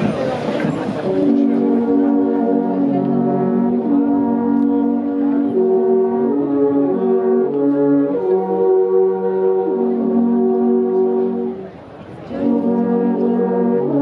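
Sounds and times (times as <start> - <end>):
alphorns playing chords: 0.0 - 14.0.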